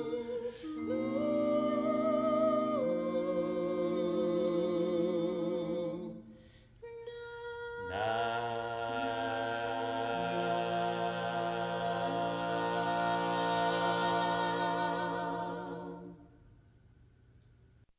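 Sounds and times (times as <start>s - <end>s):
a cappella vocal quartet singing: 0.0s - 16.3s.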